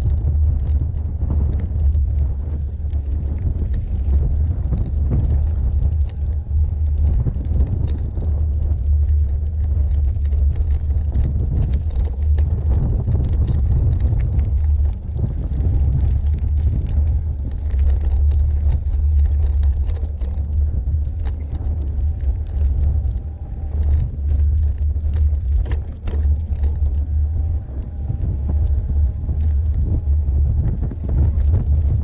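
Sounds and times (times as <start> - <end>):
bike clicks and rattles: 0.0 - 32.0
tyres rumbling over gravel: 0.0 - 32.0
wind buffeting microphone: 0.0 - 32.0.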